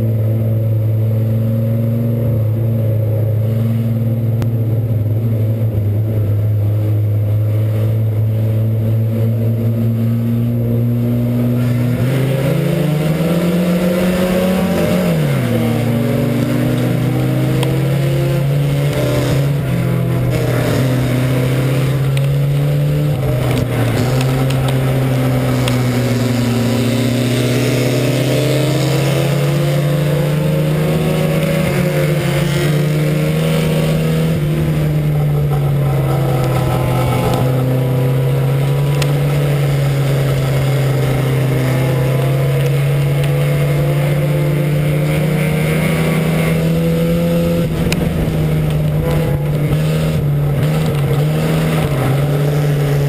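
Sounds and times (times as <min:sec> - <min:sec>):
race car engine revving: 0:00.0 - 0:53.0
tyre and dirt noise: 0:10.5 - 0:53.0.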